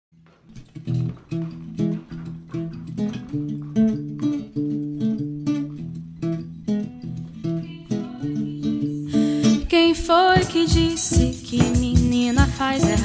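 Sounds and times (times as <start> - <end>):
acoustic guitar strumming chords: 0.2 - 13.0.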